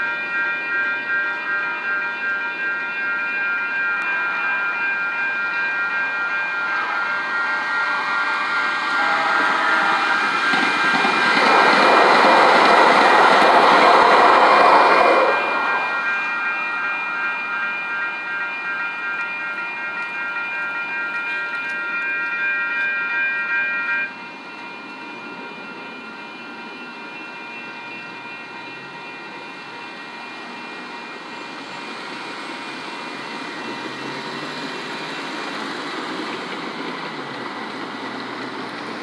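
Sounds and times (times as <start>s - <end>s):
light-rail train rushing past: 0.0s - 39.0s
railroad crossing bells ringing: 0.0s - 39.0s.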